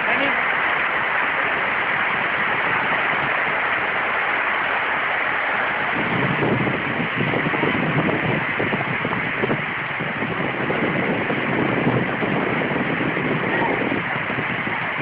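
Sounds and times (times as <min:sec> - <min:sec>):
heavy rain falling: 0:00.0 - 0:15.0
low uneven rumble: 0:00.0 - 0:15.0.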